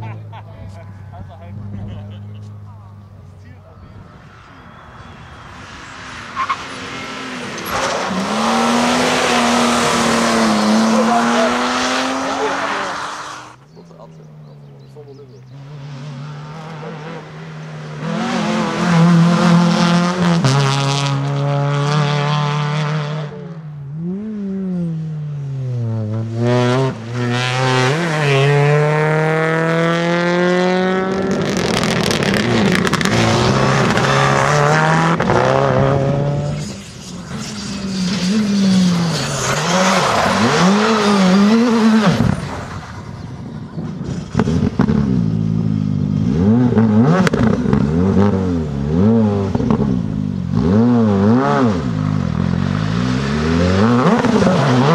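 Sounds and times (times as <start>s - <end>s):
rally car engines revving: 0.0s - 54.9s
tyre and road noise: 0.0s - 54.9s.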